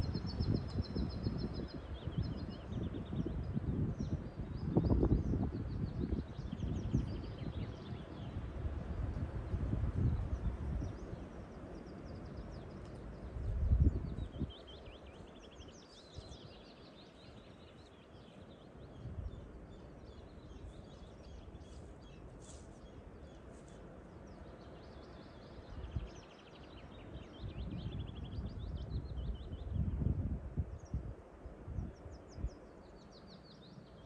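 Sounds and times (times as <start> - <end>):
wind buffeting microphone: 0.0 - 33.4
songbirds trilling: 0.0 - 34.0.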